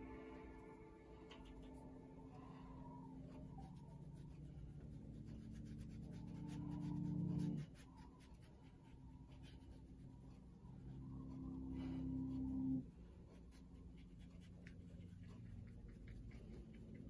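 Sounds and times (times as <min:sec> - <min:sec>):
low steady hum: 0:00.0 - 0:17.0
paintbrush scratching on paper: 0:01.4 - 0:17.0.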